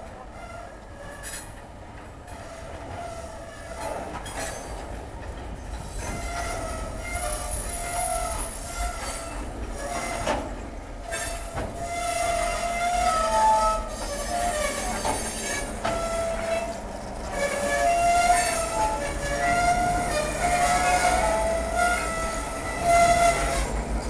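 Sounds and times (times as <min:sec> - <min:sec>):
diesel locomotive: 0:00.0 - 0:24.0
train rumble: 0:00.0 - 0:24.0
train wheels squealing: 0:00.3 - 0:01.6, 0:02.3 - 0:04.9, 0:05.7 - 0:24.0.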